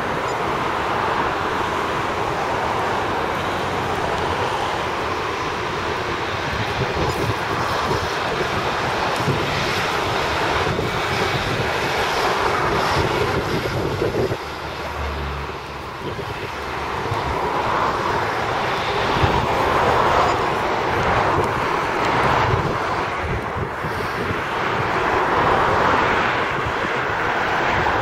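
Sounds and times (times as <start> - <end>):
diesel train engine drone: 0.0 - 28.0
wheel noise on rails: 0.0 - 28.0.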